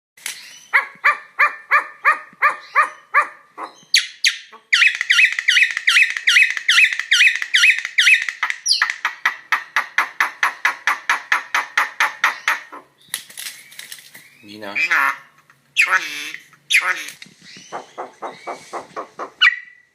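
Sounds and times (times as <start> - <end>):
bird harsh repeated notes: 0.4 - 12.8, 14.4 - 19.9.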